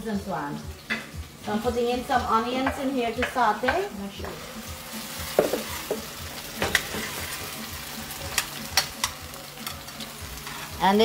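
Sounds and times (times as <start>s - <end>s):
onions sizzling in a frying pan: 0.0s - 11.0s.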